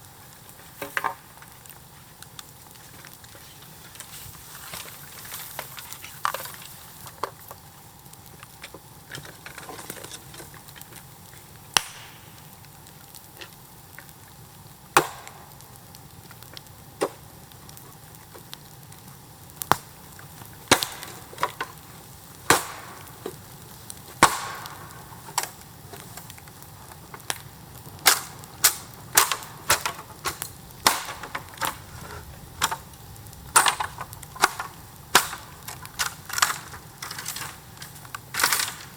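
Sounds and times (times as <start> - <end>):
bamboo cracking in fire: 0.0 - 38.9.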